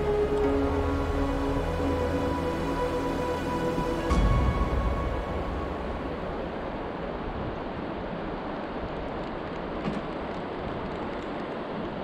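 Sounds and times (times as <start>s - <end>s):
river water flowing: 0.0s - 12.0s
wind: 0.0s - 12.0s.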